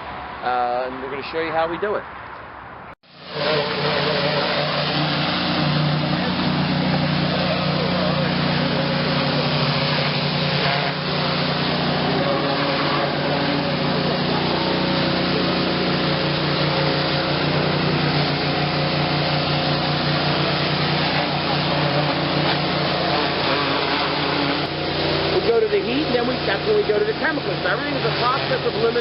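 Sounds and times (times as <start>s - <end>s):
pressure washer running: 3.0s - 29.0s.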